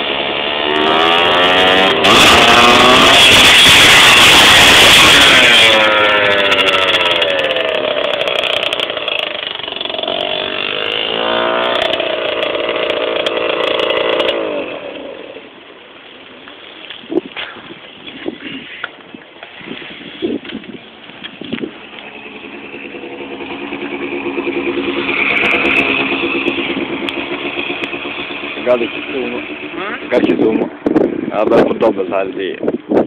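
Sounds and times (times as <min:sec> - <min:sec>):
motorbike engine revving past: 0:00.0 - 0:15.6, 0:19.6 - 0:31.5.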